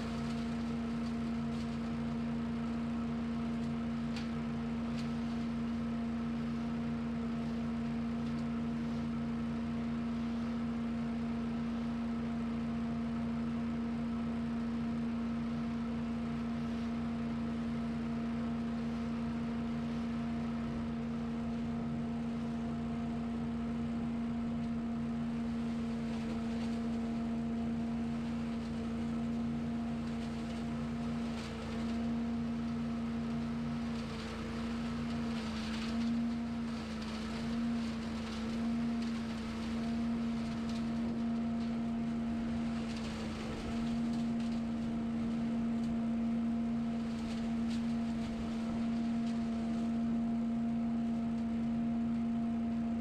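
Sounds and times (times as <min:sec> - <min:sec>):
small engine droning: 0:00.0 - 0:53.0.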